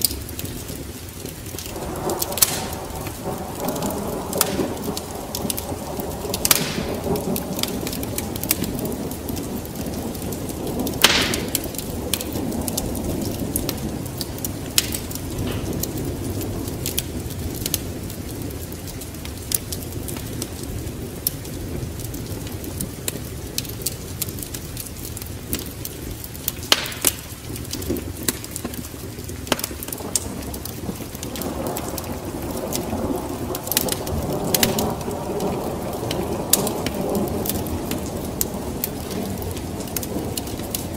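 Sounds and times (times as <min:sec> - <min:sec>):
sharp pops of fire: 0:00.0 - 0:20.6, 0:22.4 - 0:32.9, 0:33.5 - 0:40.9
rain: 0:00.0 - 0:40.9
thunder rumbling: 0:00.0 - 0:40.9
wood fire crackling: 0:00.0 - 0:40.9.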